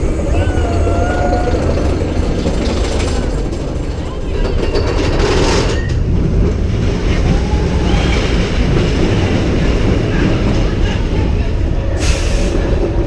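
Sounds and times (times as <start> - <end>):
roller coaster wheels rumbling: 0.0 - 13.0.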